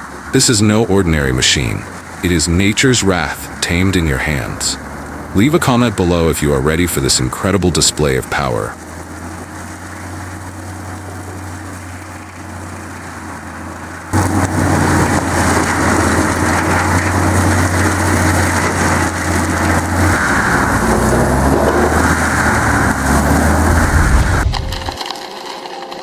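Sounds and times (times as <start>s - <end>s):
heavy machinery engine: 0.0s - 26.0s
machine working under load: 0.0s - 26.0s.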